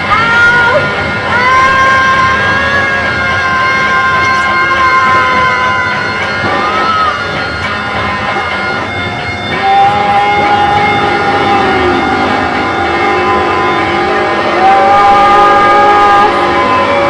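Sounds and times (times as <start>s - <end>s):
dense loud noise music: 0.0s - 17.0s
held high tone: 0.0s - 17.0s.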